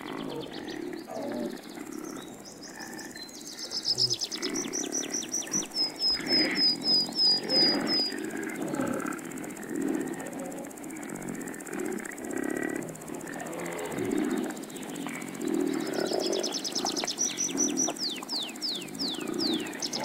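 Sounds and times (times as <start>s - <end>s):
low rough animal calls: 0.0s - 20.0s.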